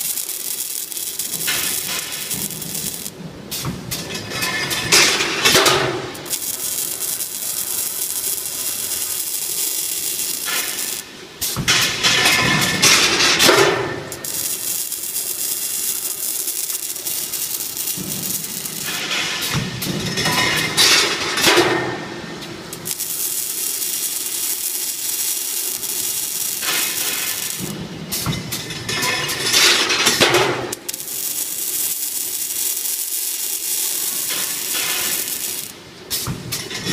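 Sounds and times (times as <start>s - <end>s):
welding hiss and crackle: 0.0s - 36.9s.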